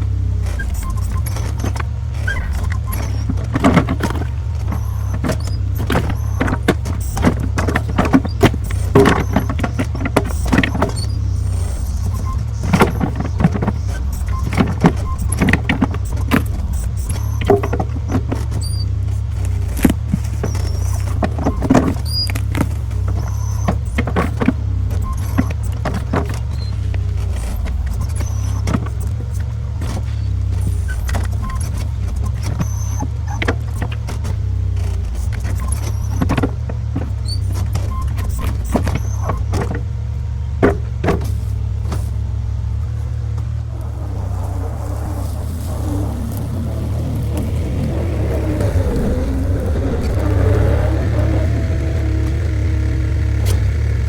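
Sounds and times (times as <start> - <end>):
skid steer engine running: 0.0 - 54.0.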